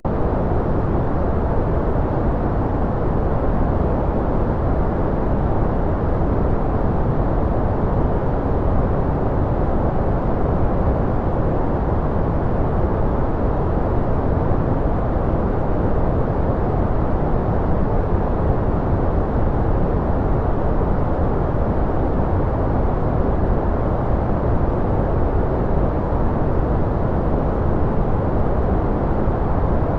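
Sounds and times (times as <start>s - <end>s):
deep muffled white noise: 0.0s - 29.9s.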